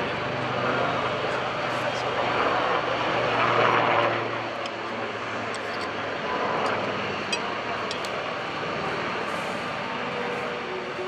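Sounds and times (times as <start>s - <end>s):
helicopter rotor drone: 0.0s - 11.0s.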